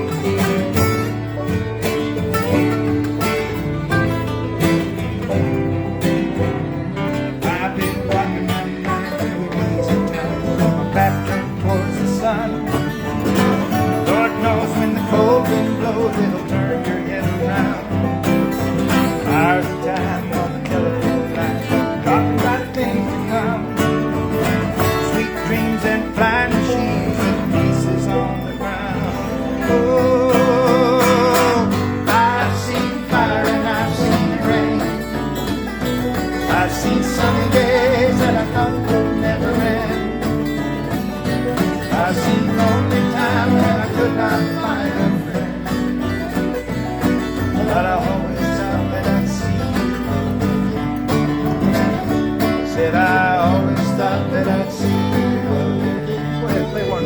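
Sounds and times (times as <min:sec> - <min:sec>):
acoustic country string band: 0:00.0 - 0:57.0.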